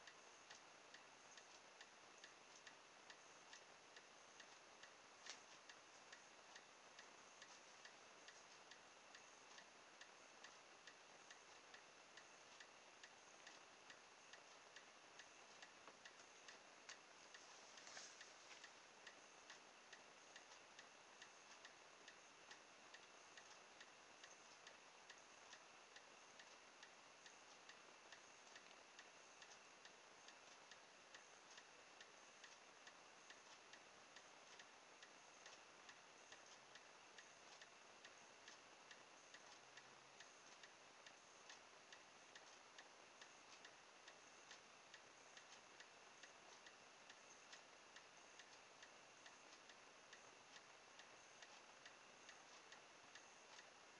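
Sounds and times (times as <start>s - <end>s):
faint steady ticking: 0.0s - 53.9s.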